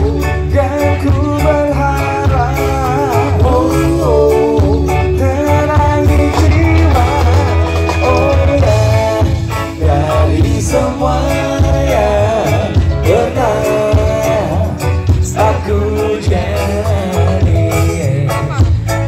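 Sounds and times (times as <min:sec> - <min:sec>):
heavy pulsing bass line: 0:00.0 - 0:19.0
live reggae band: 0:00.0 - 0:19.0
man singing: 0:00.0 - 0:19.0.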